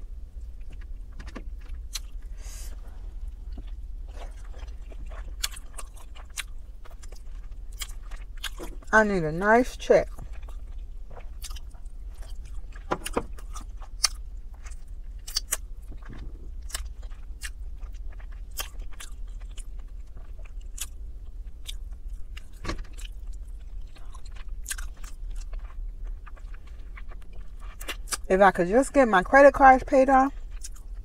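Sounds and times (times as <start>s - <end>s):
low hum: 0.0s - 31.0s
chewing with mouth smacks: 0.3s - 8.9s, 10.0s - 28.3s, 30.4s - 31.0s.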